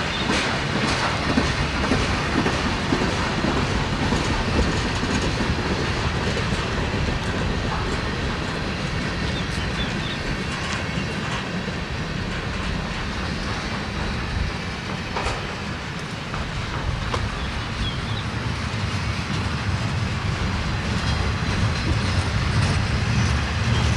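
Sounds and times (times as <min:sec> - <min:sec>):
train cars rumbling: 0:00.0 - 0:23.9
wheels clacking over rail joints: 0:00.0 - 0:23.9.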